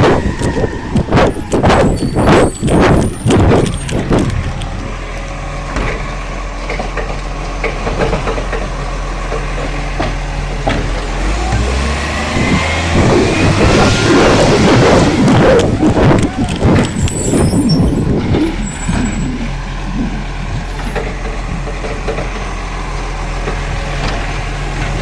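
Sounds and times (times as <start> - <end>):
garbage truck engine running: 0.0 - 25.0.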